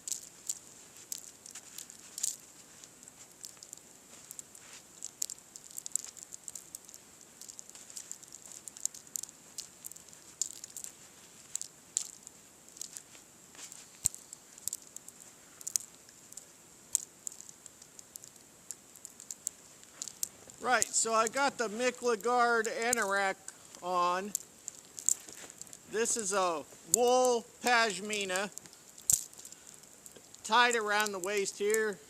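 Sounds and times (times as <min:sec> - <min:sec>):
dry snow pattering: 0:00.0 - 0:32.0
faint high hiss: 0:00.0 - 0:32.0.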